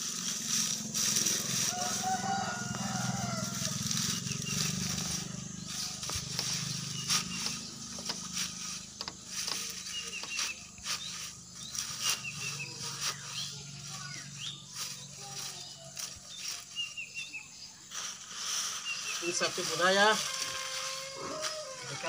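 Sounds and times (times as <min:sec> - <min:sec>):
dry leaves rustling and crackling: 0:00.0 - 0:22.0.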